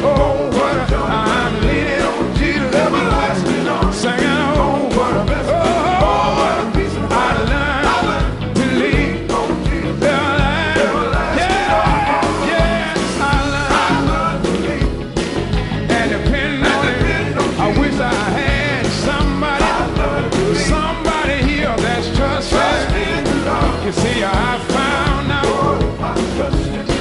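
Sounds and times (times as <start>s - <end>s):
man singing gospel: 0.0s - 15.1s, 15.7s - 27.0s
bass: 0.0s - 27.0s
electric guitar: 0.0s - 27.0s
steady beat: 0.0s - 27.0s.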